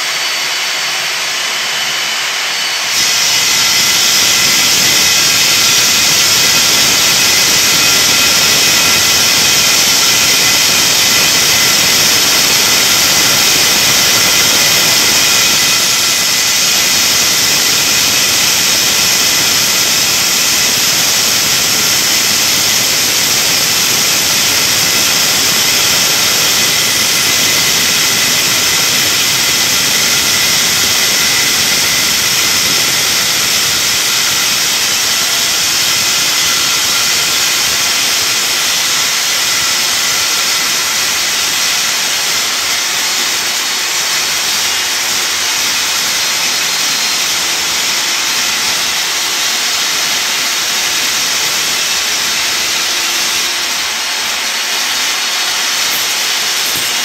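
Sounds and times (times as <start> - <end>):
core drill motor whine: 0.0 - 57.0.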